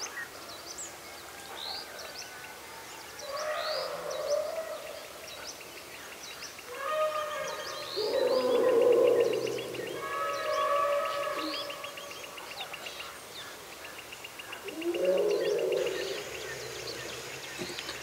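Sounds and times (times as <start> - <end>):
many birds chirping: 0.0 - 18.0.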